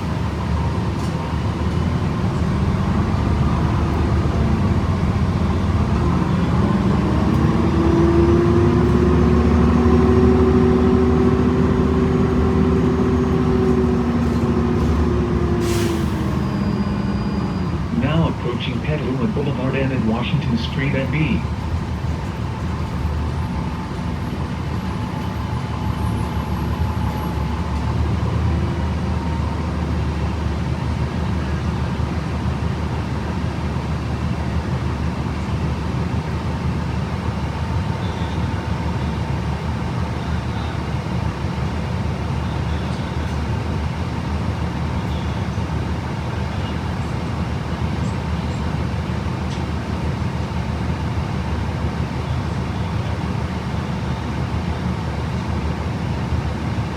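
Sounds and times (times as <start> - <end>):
bus drivetrain rumble: 0.0 - 56.9
road noise: 0.0 - 56.9.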